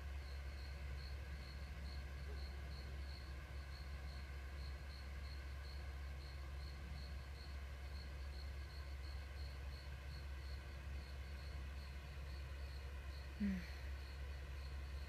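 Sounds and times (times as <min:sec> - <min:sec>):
crickets chirping: 0:00.0 - 0:15.0
steady low hum: 0:00.0 - 0:15.0.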